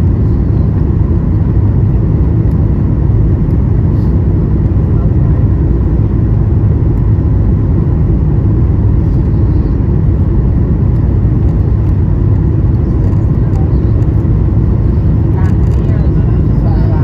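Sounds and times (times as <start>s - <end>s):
airplane cabin rumble: 0.0s - 17.0s
faint steady whine: 0.0s - 17.0s.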